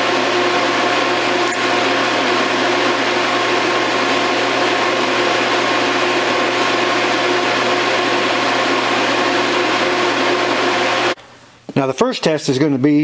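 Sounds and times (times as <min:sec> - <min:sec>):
electrical hum: 0:00.0 - 0:11.8.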